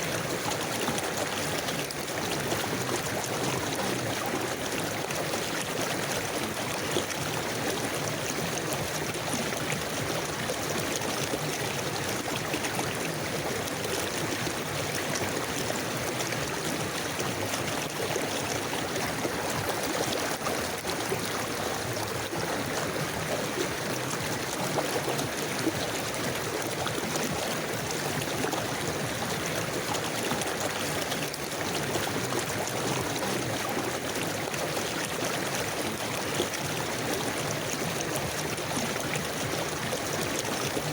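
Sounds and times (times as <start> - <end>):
river flowing over stones: 0.0 - 40.9.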